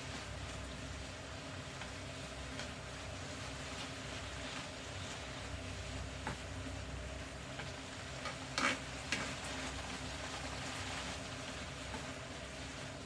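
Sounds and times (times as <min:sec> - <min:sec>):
mushrooms sizzling in a pan: 0:00.0 - 0:13.0.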